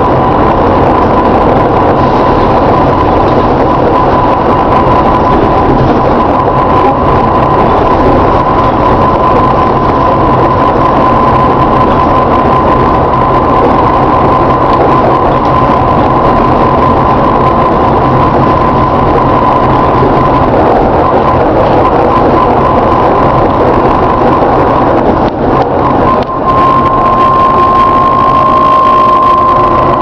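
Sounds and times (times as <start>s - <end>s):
bus engine rumble: 0.0s - 30.0s
high-pitched groaning tone: 0.0s - 30.0s.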